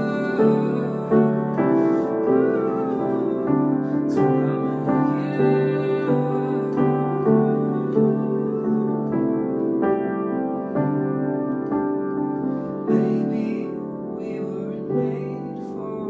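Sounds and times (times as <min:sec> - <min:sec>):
digital piano ballad chords: 0:00.0 - 0:16.0.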